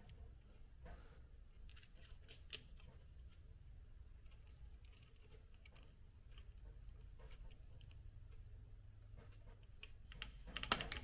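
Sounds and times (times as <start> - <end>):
faint clicks of metal parts: 0.0 - 11.0.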